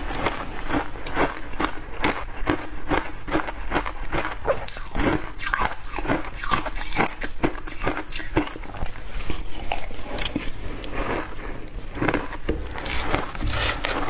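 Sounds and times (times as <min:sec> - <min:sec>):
teeth crunching hard ice: 0:00.0 - 0:14.0.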